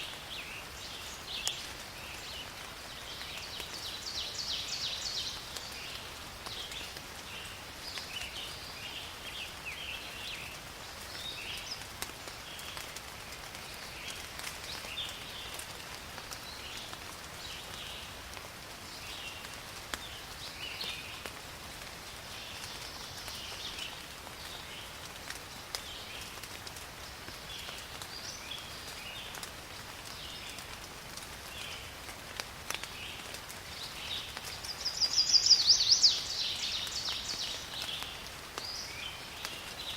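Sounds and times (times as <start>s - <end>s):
steady rain in forest: 0.0s - 39.9s.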